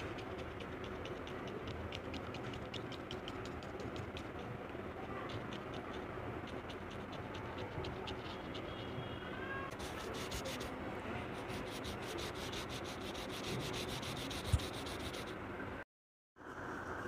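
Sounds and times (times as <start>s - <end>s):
fingertip rubbing on paper: 0.0s - 9.0s, 9.7s - 15.4s.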